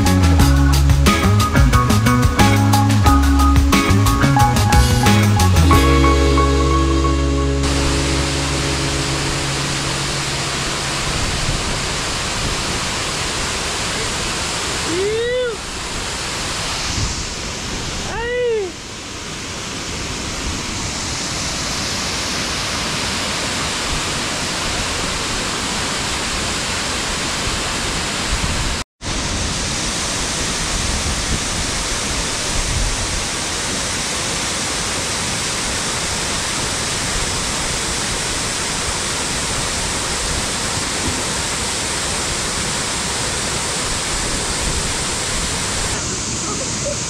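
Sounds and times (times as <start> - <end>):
waterfall rushing into pool: 5.8 - 47.0.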